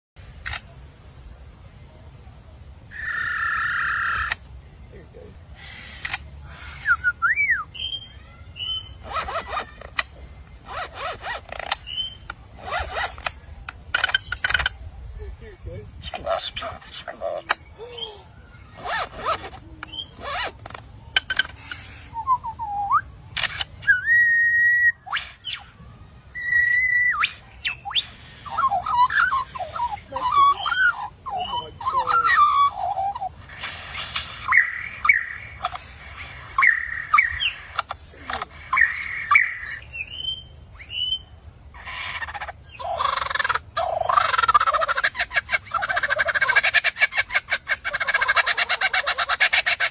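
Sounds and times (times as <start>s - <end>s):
birds chattering harshly: 2.9s - 22.6s, 26.4s - 49.9s
birds chirping and whistling: 5.5s - 49.9s.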